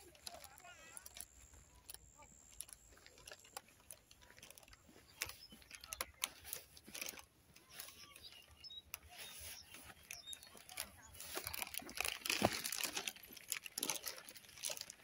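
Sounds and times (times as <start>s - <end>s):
faint clicks and ticks: 0.0s - 15.0s.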